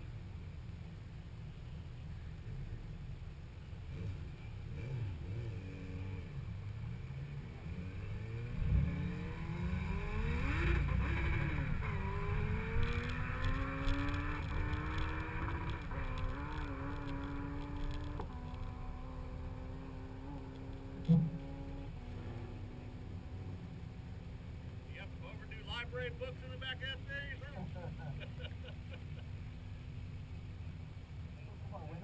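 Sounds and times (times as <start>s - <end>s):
car engine revving and idling: 1.7s - 32.0s.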